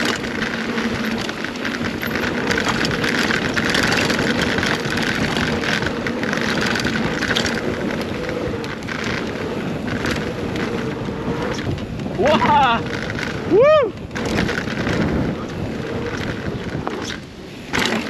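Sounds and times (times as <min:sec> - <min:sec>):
bike knocks and rattles: 0:00.0 - 0:18.0
tyre and rushing air noise: 0:00.0 - 0:18.0.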